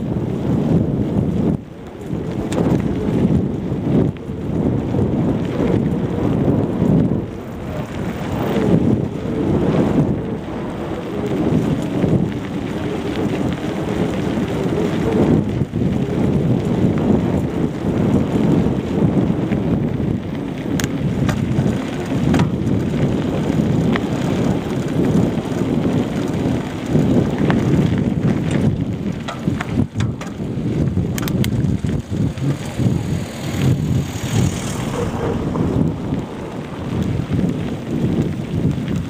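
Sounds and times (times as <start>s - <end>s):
bicycle knocks and rattles: 0.0s - 10.5s, 11.1s - 34.7s, 35.4s - 39.0s
wind buffeting microphone: 0.0s - 39.0s.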